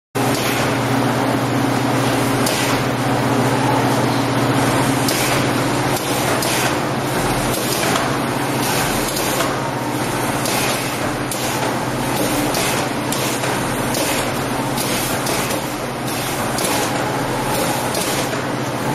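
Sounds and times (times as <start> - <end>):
machine humming: 0.2 - 18.9.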